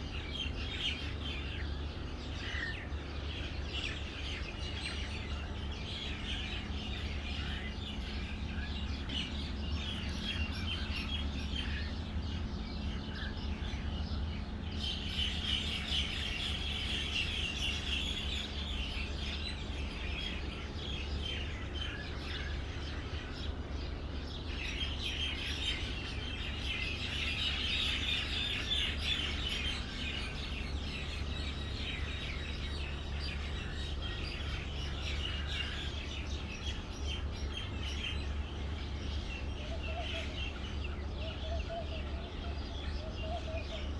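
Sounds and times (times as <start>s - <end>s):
small birds chirping: 0.0s - 43.9s
steady low hum: 0.0s - 43.9s.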